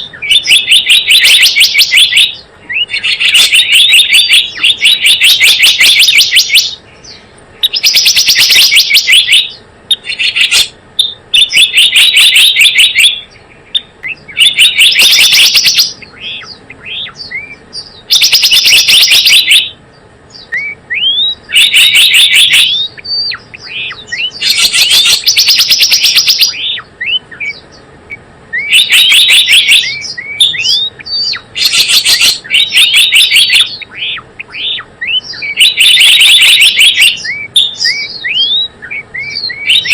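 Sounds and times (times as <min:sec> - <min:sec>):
bird chattering high notes: 0:00.0 - 0:06.8, 0:07.6 - 0:19.8, 0:20.4 - 0:27.6, 0:28.6 - 0:39.9.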